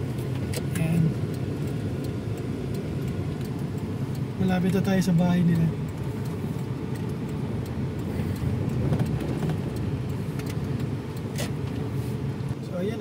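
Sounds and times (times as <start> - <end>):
car driving slowly: 0.0 - 13.0.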